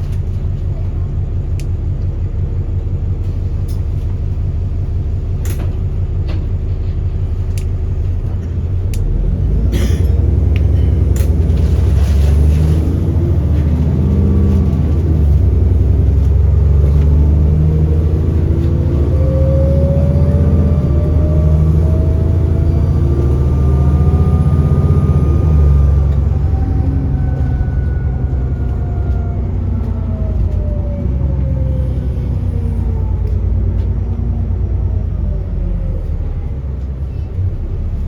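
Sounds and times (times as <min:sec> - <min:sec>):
bus engine accelerating: 0:00.0 - 0:38.0.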